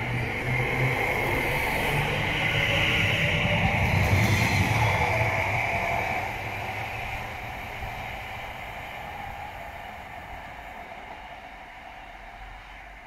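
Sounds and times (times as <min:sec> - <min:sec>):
electric train motor whine and rumble: 0:00.0 - 0:13.0.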